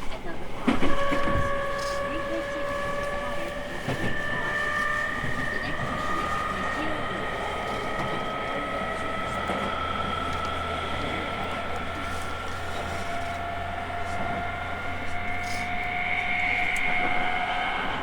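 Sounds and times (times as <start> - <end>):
electric train motor whine: 0.0 - 18.0
train running noise and hum: 0.0 - 18.0.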